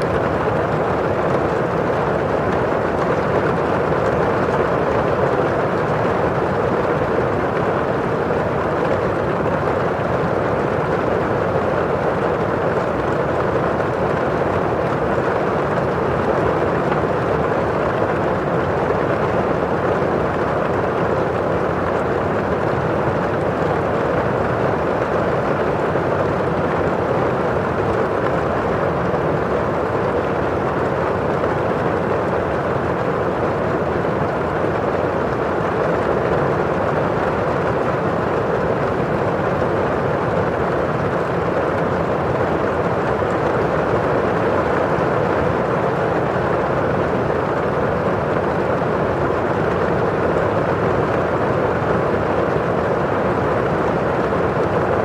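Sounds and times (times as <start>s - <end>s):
rain falling outside: 0.0s - 55.0s
rain on a windowpane: 0.0s - 55.0s.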